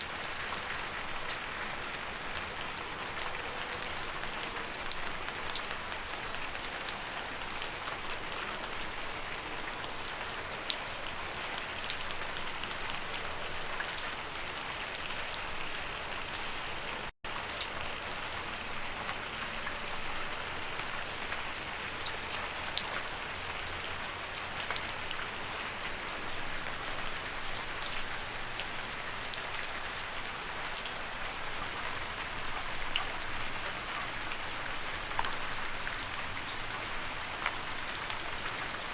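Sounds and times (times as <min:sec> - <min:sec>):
raindrops ticking on a surface: 0:00.0 - 0:38.9
steady falling rain: 0:00.0 - 0:38.9.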